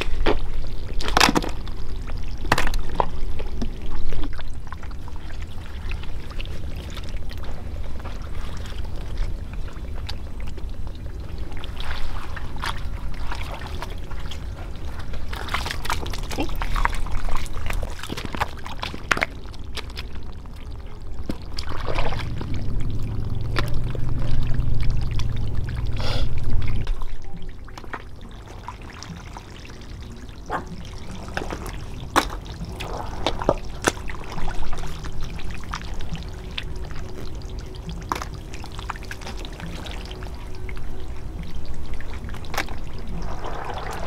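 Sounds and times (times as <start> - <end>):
low rumble: 0.0 - 44.0
water pouring and splashing: 0.0 - 44.0.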